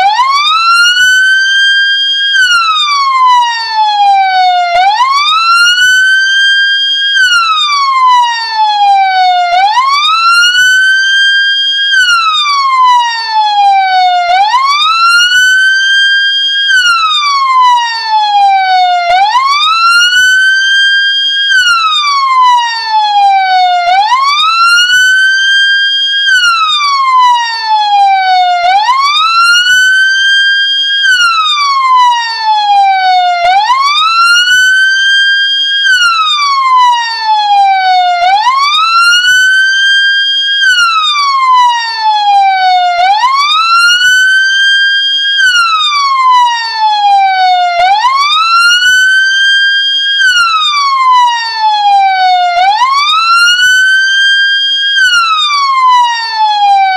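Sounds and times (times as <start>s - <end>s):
ambulance siren wailing: 0.0s - 56.9s.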